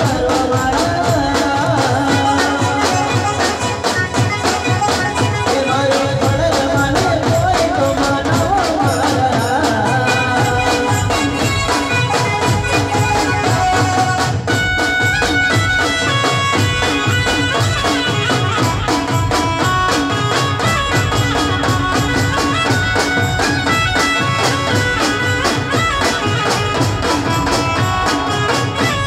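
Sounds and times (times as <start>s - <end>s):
fast drum rhythm: 0.0s - 29.0s
folk band playing: 0.0s - 29.0s
reedy lead melody: 0.0s - 29.0s.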